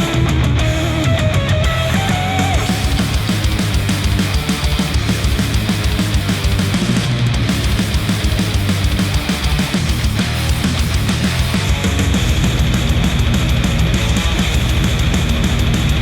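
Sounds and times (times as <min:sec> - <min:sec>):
heavy rock music through headphones: 0:00.0 - 0:16.0.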